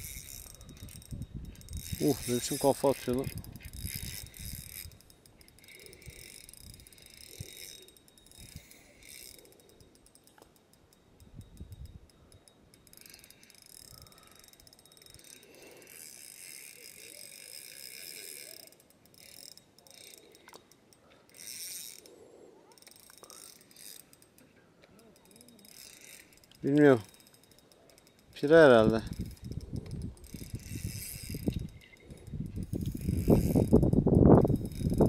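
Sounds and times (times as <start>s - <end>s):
fishing reel ticking: 0.0s - 35.0s.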